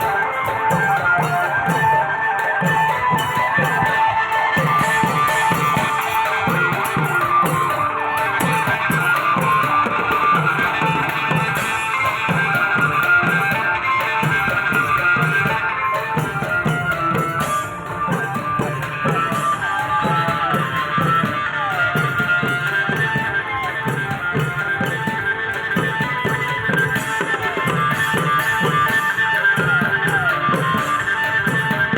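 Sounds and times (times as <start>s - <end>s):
long drums beating: 0.0s - 31.9s.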